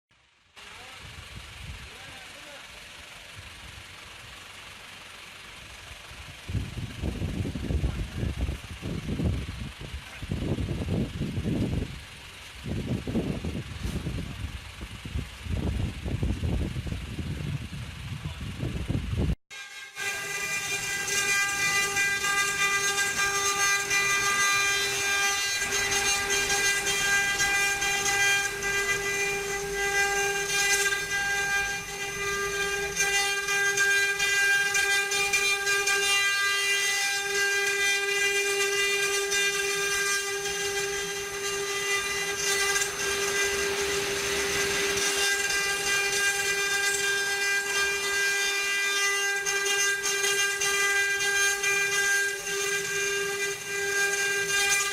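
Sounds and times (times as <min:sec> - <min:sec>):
router spindle whine: 0:00.4 - 0:54.9.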